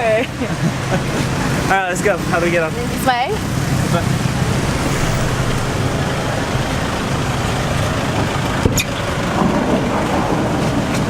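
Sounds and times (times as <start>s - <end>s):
bus engine rumble: 0.0s - 11.0s
road noise: 0.0s - 11.0s.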